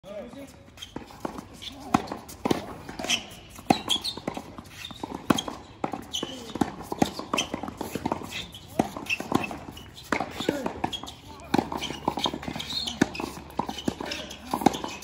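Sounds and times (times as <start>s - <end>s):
racket hitting tennis ball: 0.8s - 15.0s
ball bouncing on hard court: 0.9s - 15.0s.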